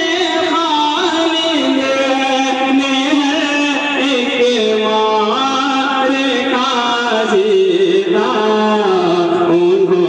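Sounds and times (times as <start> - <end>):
person singing devotional poem: 0.0 - 10.0.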